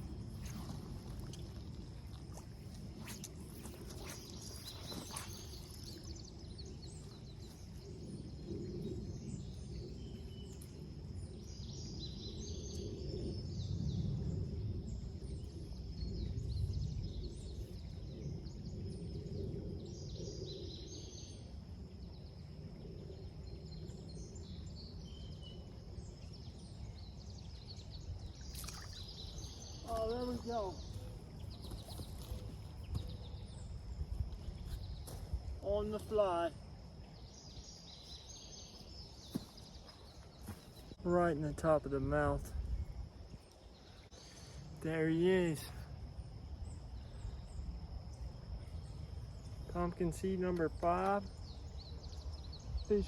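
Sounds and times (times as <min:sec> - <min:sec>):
small birds chirping: 0:00.0 - 0:14.7, 0:22.1 - 0:53.0.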